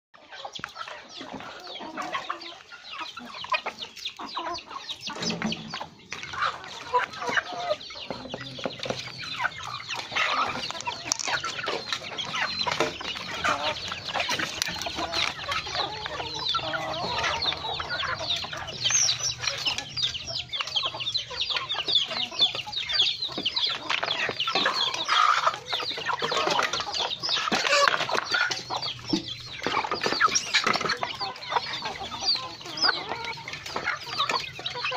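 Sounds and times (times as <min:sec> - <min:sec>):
chickens clucking and calling: 0:00.2 - 0:34.9.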